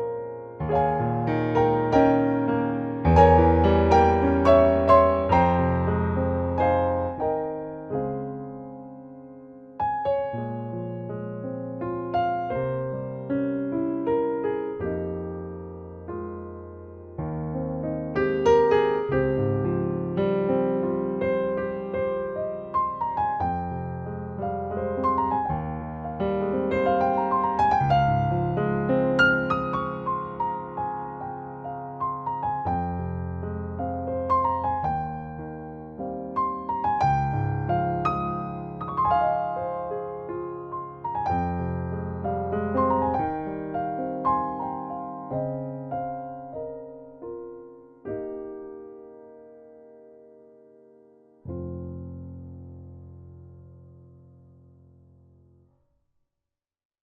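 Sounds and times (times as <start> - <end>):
gentle piano music: 0.0 - 55.6.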